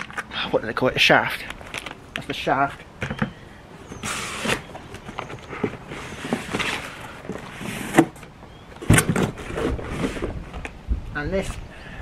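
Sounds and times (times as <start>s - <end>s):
cardboard and packaging rustling: 0.0s - 0.4s, 1.3s - 10.8s.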